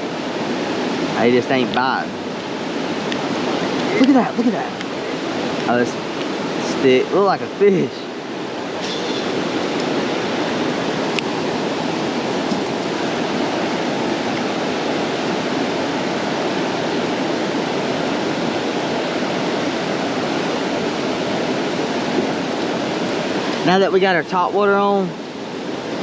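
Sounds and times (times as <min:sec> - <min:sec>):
creek water running over rapids: 0:00.0 - 0:26.0.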